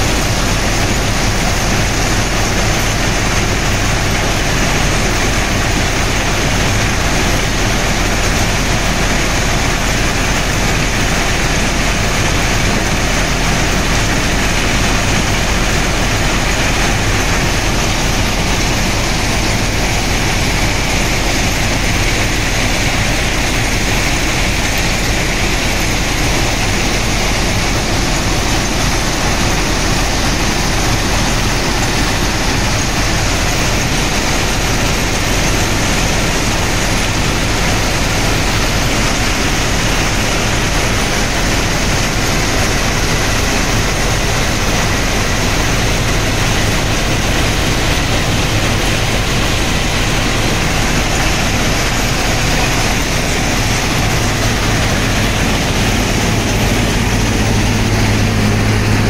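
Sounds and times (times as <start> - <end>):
loud mechanical din: 0.0 - 59.0
low engine hum: 0.0 - 59.0.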